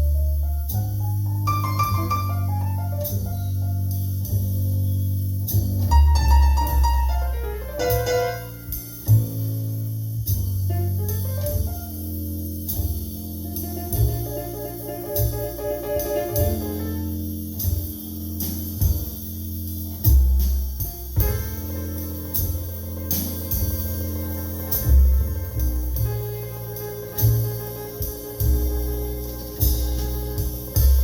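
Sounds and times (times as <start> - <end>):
piano: 0.0 - 31.0
plucked bass notes: 0.0 - 31.0.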